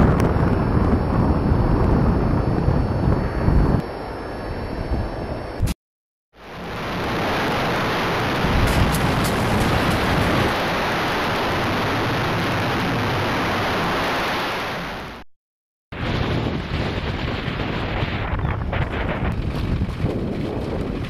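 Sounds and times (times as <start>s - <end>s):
wind buffeting microphone: 0.0s - 5.8s, 6.6s - 14.2s, 16.0s - 21.0s.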